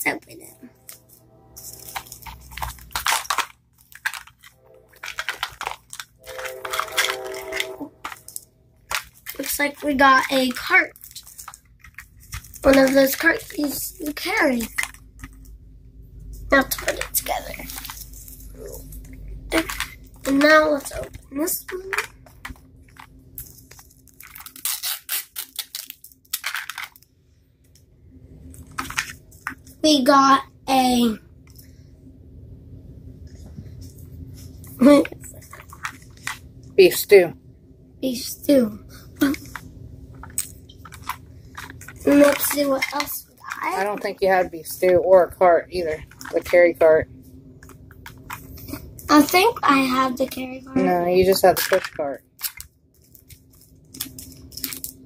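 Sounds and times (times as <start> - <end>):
plastic wrapper crinkling: 0.3 - 15.6, 16.4 - 27.1, 28.4 - 29.8, 33.6 - 36.6, 39.2 - 45.0, 45.8 - 46.9, 47.5 - 55.0.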